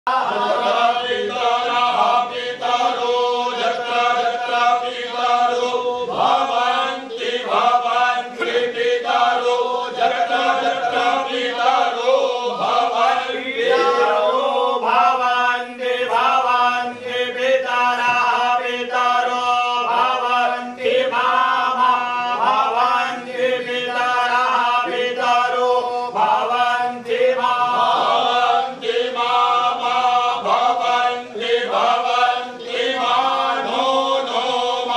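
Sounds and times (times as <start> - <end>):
men chanting in unison: 0.1 - 34.9.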